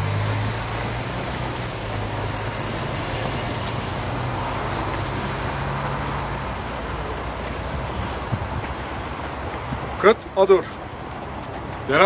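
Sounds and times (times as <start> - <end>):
outdoor background noise: 0.0 - 12.0
vehicle engine running: 0.0 - 12.0.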